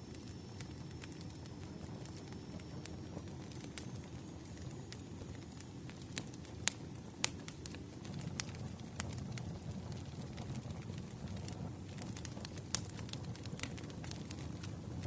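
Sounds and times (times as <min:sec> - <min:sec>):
low rumble of flames: 0:00.0 - 0:15.0
firewood popping and snapping: 0:00.1 - 0:15.0.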